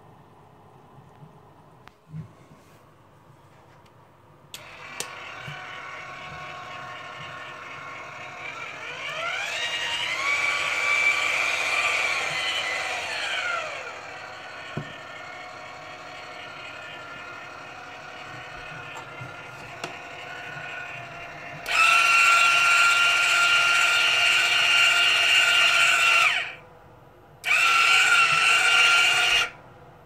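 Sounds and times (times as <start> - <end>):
electric motor whirring whine: 4.6 - 26.6, 27.4 - 29.6.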